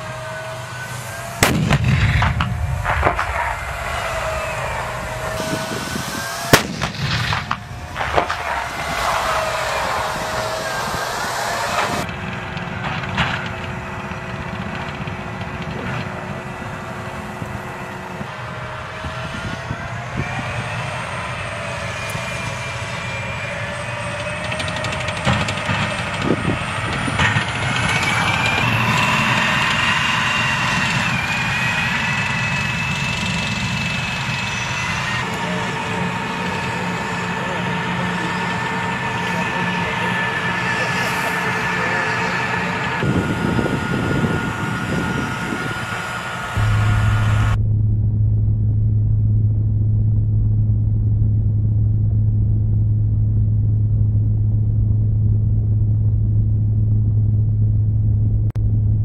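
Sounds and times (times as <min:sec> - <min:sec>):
loud bangs: 0:00.0 - 0:19.5, 0:20.6 - 0:50.1
tank turbine engines whining: 0:00.0 - 0:59.0.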